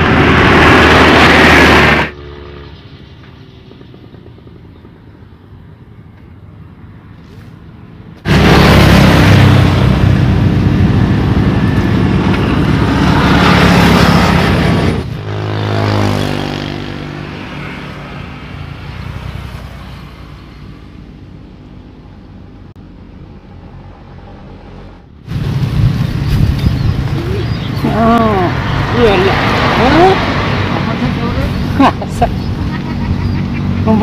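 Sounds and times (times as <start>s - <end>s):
vehicle passing close by: 0.0s - 4.7s, 8.2s - 22.6s, 23.2s - 34.0s.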